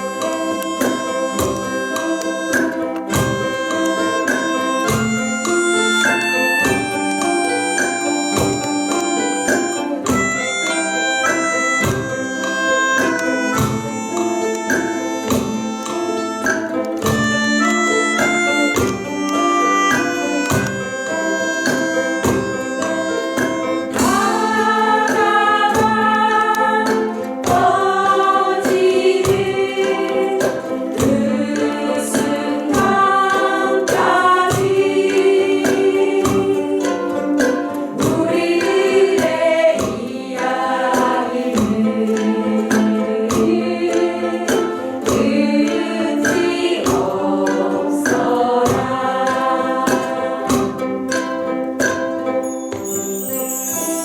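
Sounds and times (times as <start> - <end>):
group of people singing: 0.0 - 54.0
strummed ukuleles: 0.0 - 54.0.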